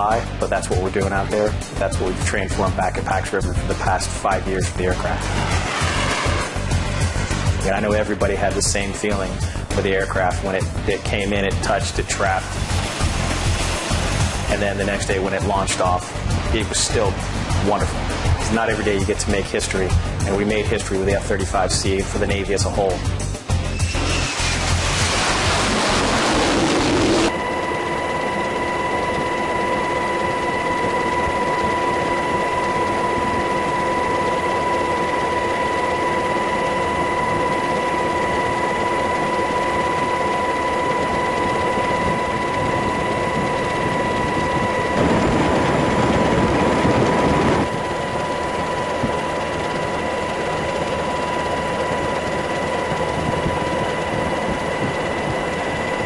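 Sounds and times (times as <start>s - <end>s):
machine whine: 0.0s - 56.0s
constant rushing noise: 0.6s - 9.5s, 11.0s - 56.0s.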